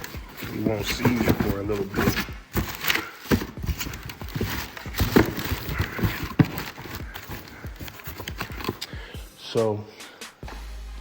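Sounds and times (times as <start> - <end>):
parts knocking and clicking: 0.0 - 9.0
packaging rustling: 0.0 - 9.6.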